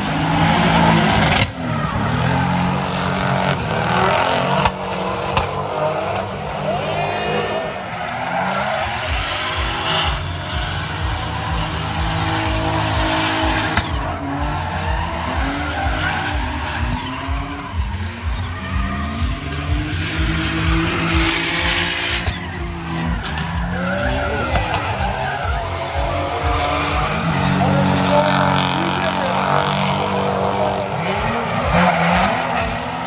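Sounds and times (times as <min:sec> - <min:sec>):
car engines revving: 0:00.0 - 0:33.0
tyres screeching: 0:00.0 - 0:33.0.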